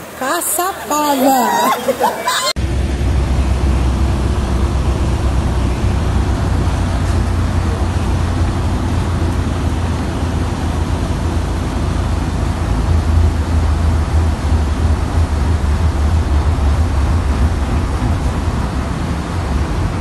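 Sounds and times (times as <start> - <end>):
floodwater rushing and splashing: 0.0 - 20.0
deep rumble: 2.6 - 20.0.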